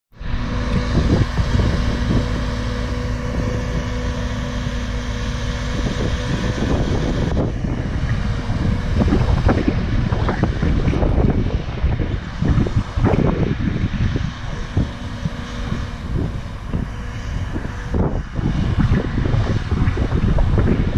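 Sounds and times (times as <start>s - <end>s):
harvester engine humming: 0.1s - 20.9s
wind buffeting microphone: 0.2s - 20.9s.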